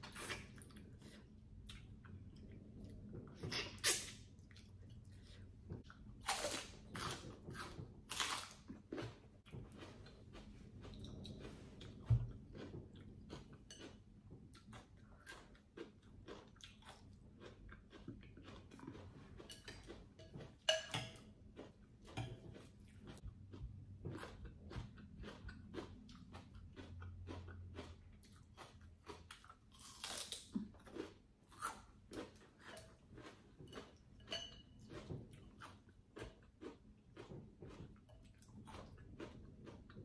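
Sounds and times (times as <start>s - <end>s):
person eating crunchy food: 0.0s - 40.0s.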